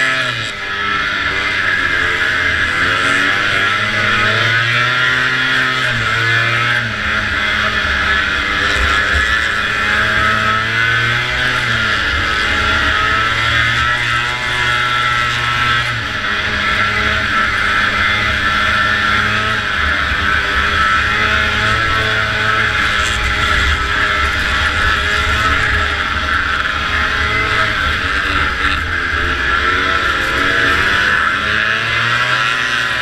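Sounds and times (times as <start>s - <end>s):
snowmobile engine running hard: 0.0s - 33.0s.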